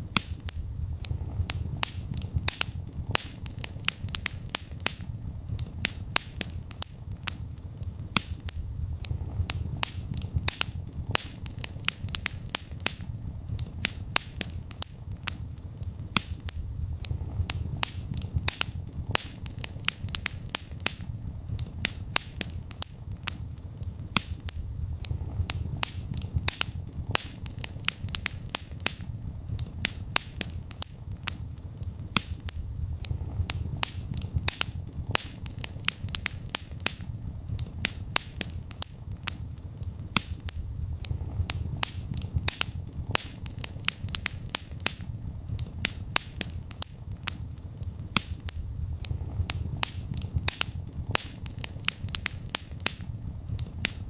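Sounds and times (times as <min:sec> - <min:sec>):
fire crackling and popping: 0:00.0 - 0:54.0
flames rumbling: 0:00.0 - 0:54.0.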